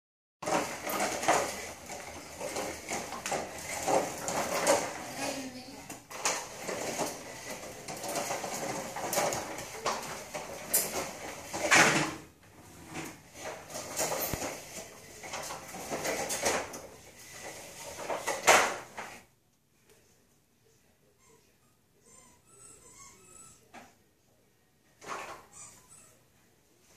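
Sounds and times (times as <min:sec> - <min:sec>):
toy walker rolling on tile floor: 0:00.4 - 0:19.3, 0:22.0 - 0:23.7, 0:25.0 - 0:26.2.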